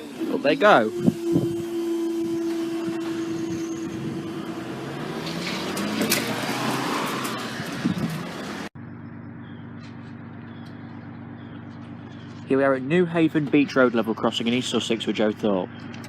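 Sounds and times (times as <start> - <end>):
steady traffic hum: 0.0 - 16.0
vehicle passing: 0.6 - 14.0.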